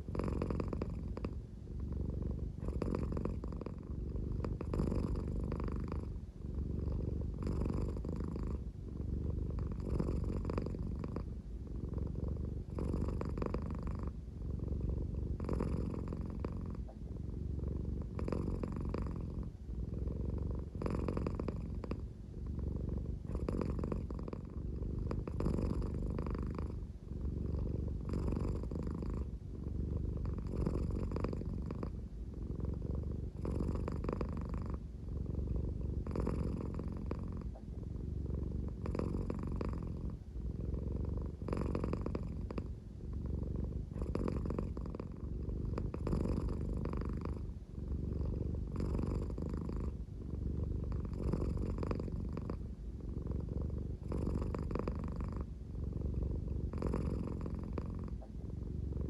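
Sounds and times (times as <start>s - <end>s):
cat purring deeply: 0.0s - 59.0s.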